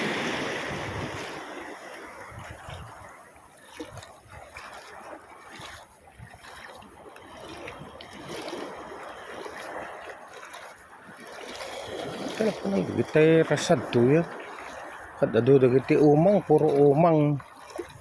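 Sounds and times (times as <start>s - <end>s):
shallow seawater sloshing and splashing: 0.0s - 18.0s.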